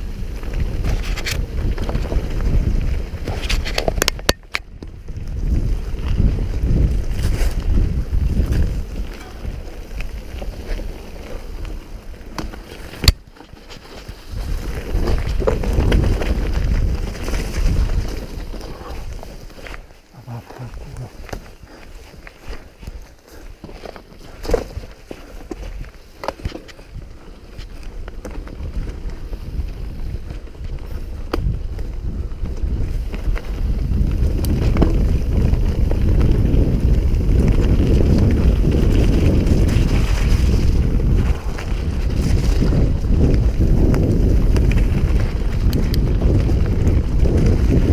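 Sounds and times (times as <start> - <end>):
wind on microphone: 0.0 - 13.2, 14.1 - 23.1, 24.5 - 47.9
bike rattling: 0.0 - 47.9
bike tyres rumbling over stones: 0.0 - 47.9.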